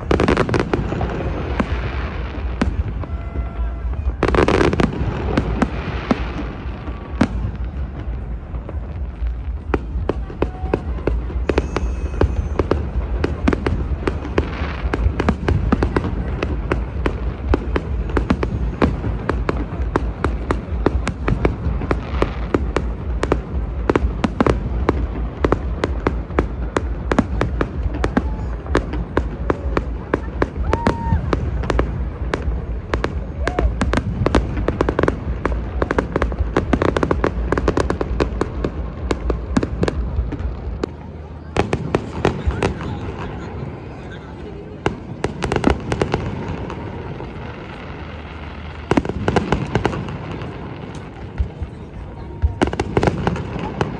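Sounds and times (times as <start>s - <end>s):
fireworks popping and banging: 0.0s - 44.0s, 44.8s - 53.9s
low rumble: 0.0s - 44.0s.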